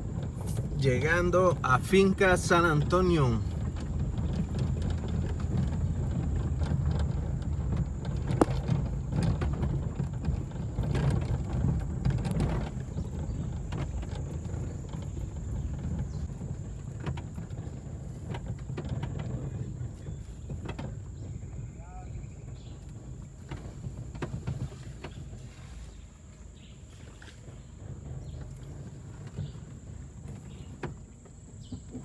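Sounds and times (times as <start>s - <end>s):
knocks and clicks over bumps: 0.0s - 25.7s, 26.3s - 32.0s
car engine and tyres rumbling: 0.0s - 32.0s.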